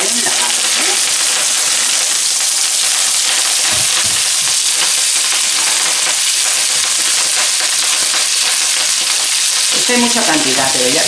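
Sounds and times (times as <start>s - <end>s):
oil and garlic sizzling in a wok: 0.0s - 11.0s.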